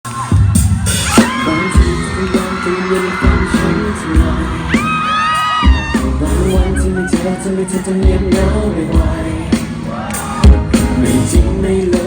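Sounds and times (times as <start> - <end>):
electronic pop music: 0.1 - 12.0.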